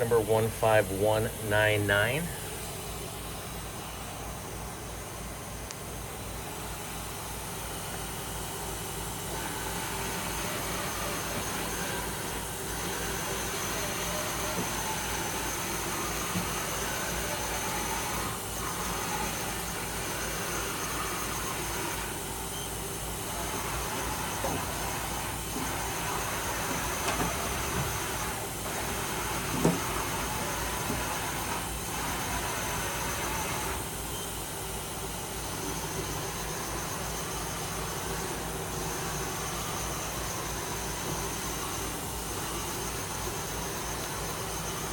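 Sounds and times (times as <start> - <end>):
machine hiss and hum: 0.0 - 44.9.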